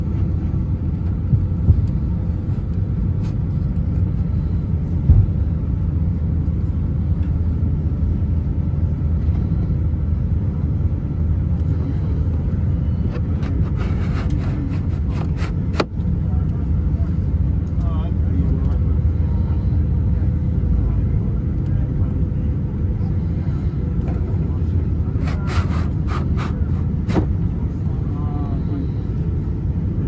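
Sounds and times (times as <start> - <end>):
airplane cabin rumble: 0.0 - 30.0
faint hum tones: 0.0 - 30.0.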